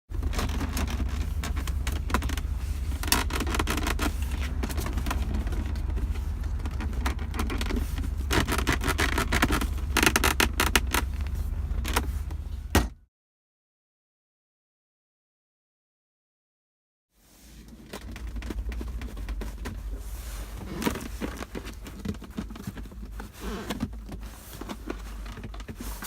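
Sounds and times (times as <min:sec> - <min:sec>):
armrest creaking: 0:00.1 - 0:13.0, 0:17.5 - 0:26.0
vehicle low rumble: 0:00.1 - 0:13.1, 0:17.4 - 0:26.0.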